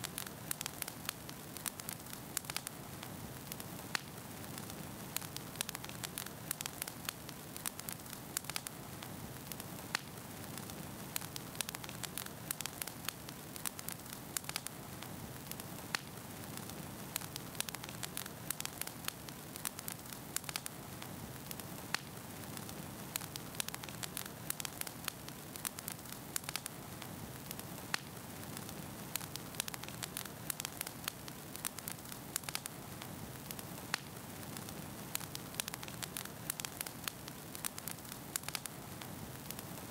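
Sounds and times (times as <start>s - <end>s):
crackles and pops: 0.0s - 39.9s
steady low hiss: 0.0s - 39.9s.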